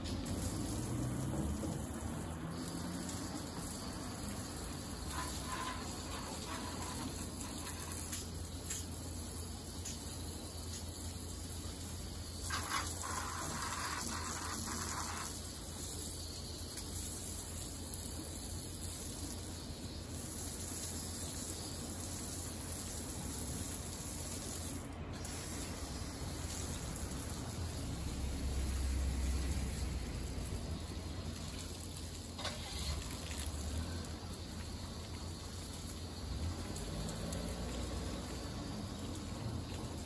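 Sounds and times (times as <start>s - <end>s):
water spraying from hose nozzle: 0.0s - 40.0s.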